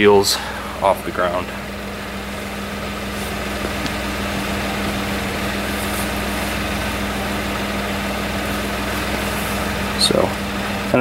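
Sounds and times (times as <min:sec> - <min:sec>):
electric winch humming: 0:00.0 - 0:11.0
truck engine idling: 0:00.0 - 0:11.0.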